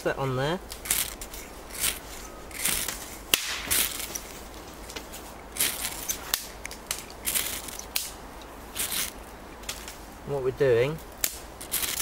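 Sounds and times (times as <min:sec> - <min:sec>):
fire steel rasping strokes: 0:00.7 - 0:10.0, 0:11.2 - 0:12.0.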